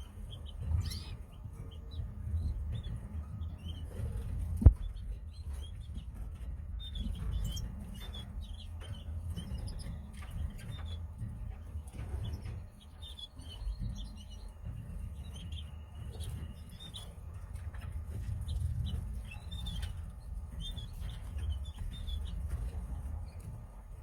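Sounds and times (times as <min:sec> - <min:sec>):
canaries chirping: 0:00.0 - 0:24.0.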